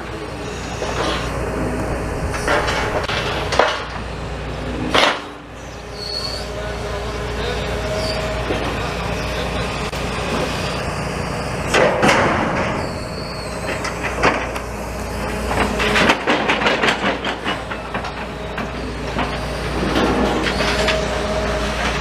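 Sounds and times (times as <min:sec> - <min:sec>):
rumble of vehicles and machinery: 0:00.0 - 0:22.0.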